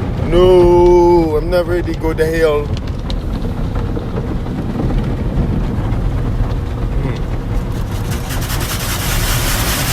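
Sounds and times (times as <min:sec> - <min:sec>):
car wash machinery running: 0:00.0 - 0:09.9.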